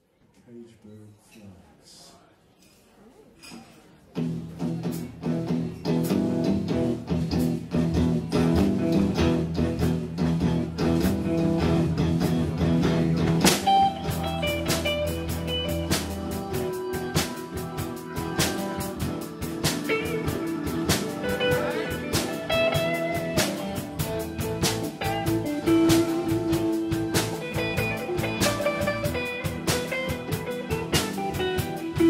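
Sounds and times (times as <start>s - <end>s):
drum kit: 4.2s - 32.0s
electric guitar: 4.2s - 32.0s.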